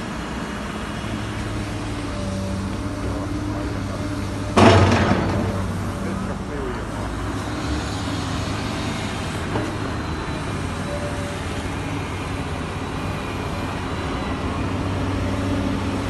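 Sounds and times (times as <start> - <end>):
dumper engine running: 0.0 - 16.0.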